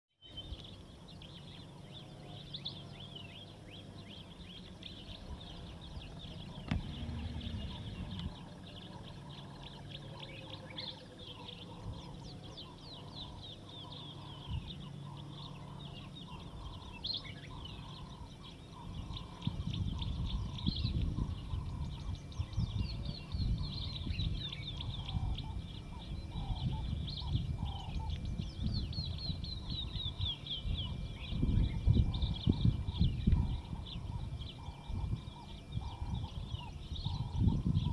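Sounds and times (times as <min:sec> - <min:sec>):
birds chirping and twittering: 0:00.1 - 0:37.9
low bird call: 0:00.3 - 0:37.9.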